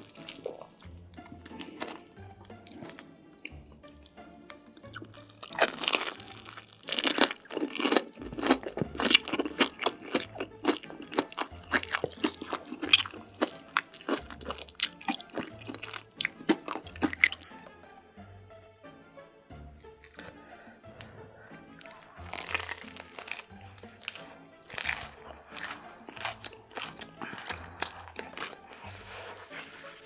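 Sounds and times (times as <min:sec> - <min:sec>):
crunchy chewing: 0:00.0 - 0:04.0, 0:04.8 - 0:17.6, 0:19.7 - 0:30.0
background music with bass line: 0:00.0 - 0:30.0.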